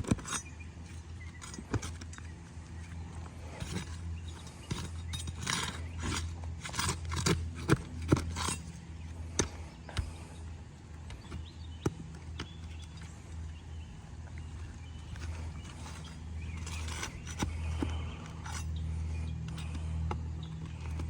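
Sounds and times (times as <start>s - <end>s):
flat bar scraping under shingle: 0.0s - 21.0s
steady low hum: 0.0s - 21.0s.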